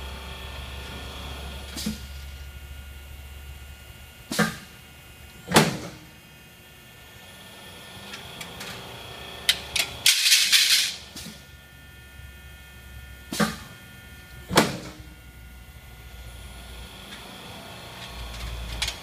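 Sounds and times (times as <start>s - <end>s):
rollformer machine humming: 0.0s - 19.0s.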